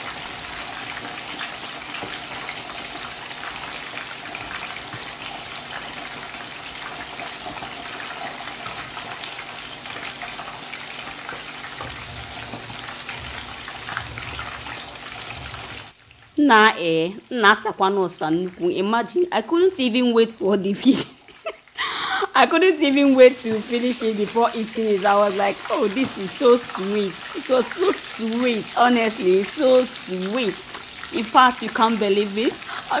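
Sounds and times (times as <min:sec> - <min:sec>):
fish sizzling in hot oil: 0:00.0 - 0:16.4, 0:22.4 - 0:33.0.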